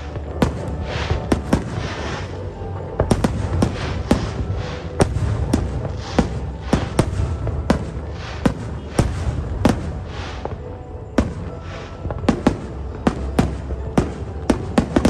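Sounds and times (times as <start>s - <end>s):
crackling firework trails: 0.0s - 15.0s
fireworks bangs: 0.0s - 15.0s.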